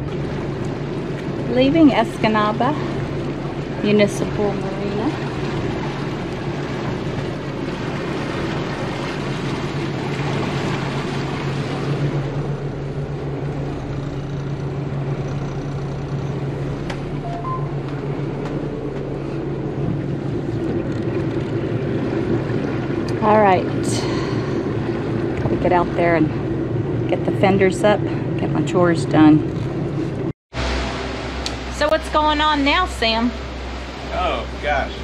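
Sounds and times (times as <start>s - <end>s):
boat engines humming: 0.0s - 35.0s.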